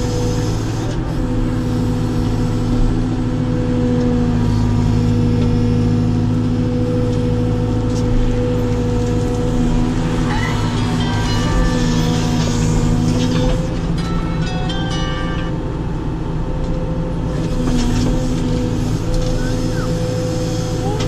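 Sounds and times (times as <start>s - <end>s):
diesel engine running steadily: 0.0s - 21.0s.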